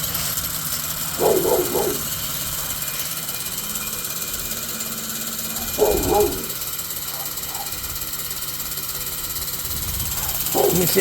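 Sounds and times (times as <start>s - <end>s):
fan whirring with fast beat: 0.0s - 11.0s.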